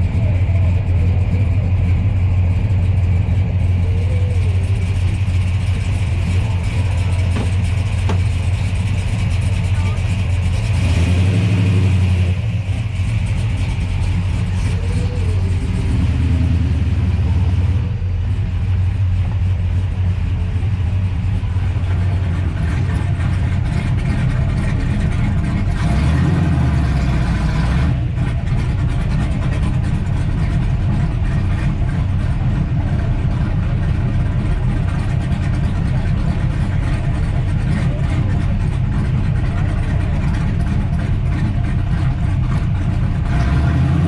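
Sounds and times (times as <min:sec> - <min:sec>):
car engines running low: 0:00.0 - 0:44.0.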